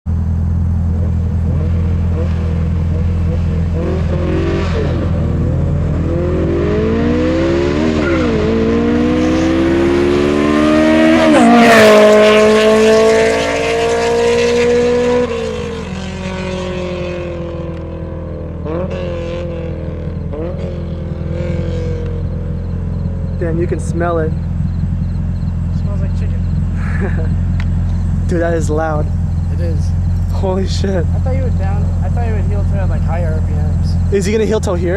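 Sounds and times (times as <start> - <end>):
engine rev blips: 0.1 - 34.7
car engine revving past: 0.9 - 30.3.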